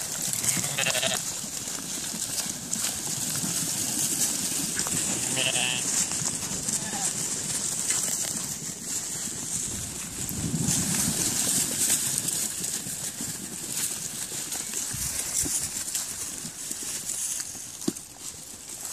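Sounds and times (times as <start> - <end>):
hooves pattering on dry ground: 0.0 - 18.9
rustling: 0.0 - 18.9.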